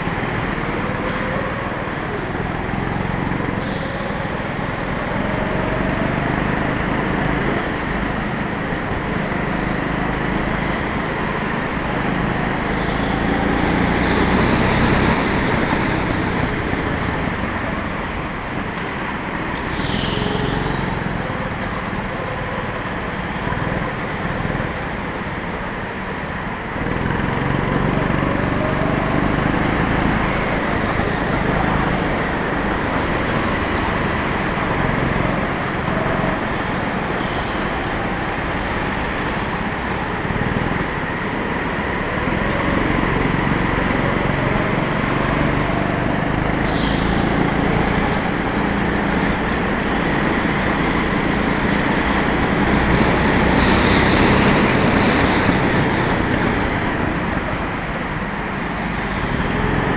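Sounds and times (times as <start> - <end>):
go-kart engine running: 0.0 - 59.9
road and wind noise: 0.0 - 59.9.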